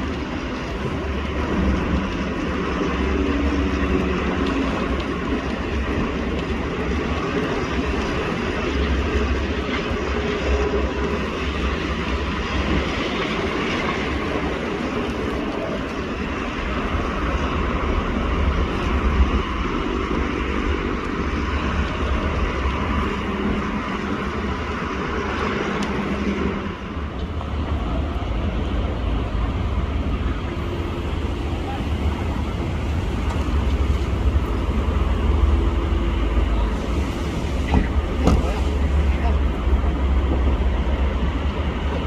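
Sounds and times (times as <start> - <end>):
heavy machinery engine rumbling: 0.0 - 42.0.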